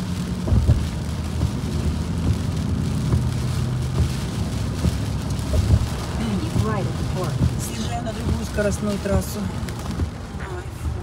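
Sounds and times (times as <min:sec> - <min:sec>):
car engine and tyres droning: 0:00.0 - 0:11.0
rain and spray hiss: 0:00.0 - 0:11.0.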